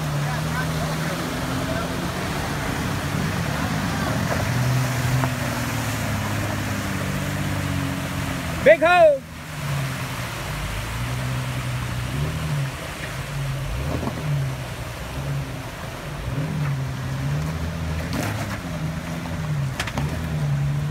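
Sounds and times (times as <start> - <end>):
creek water rushing: 0.0 - 20.9
engine running at low revs: 0.0 - 20.9.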